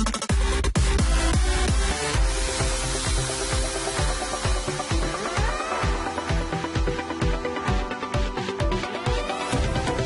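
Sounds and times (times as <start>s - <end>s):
electronic music: 0.0s - 10.0s
fast kick drum beat: 0.0s - 10.0s.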